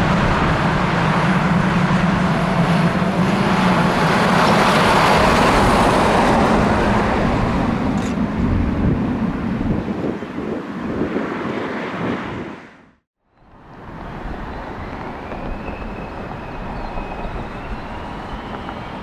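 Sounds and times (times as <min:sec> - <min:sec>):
jet engine noise: 0:00.0 - 0:12.8, 0:13.5 - 0:19.0.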